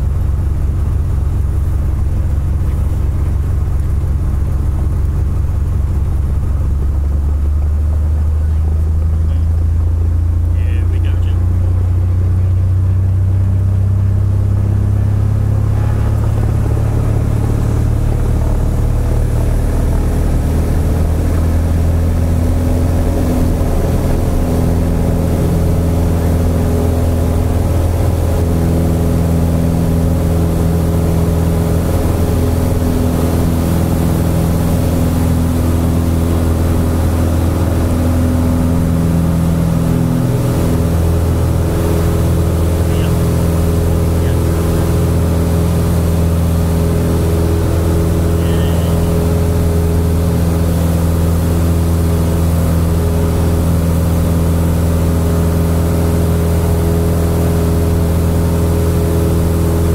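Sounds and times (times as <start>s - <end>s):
airplane engine and propeller: 0.0s - 59.9s.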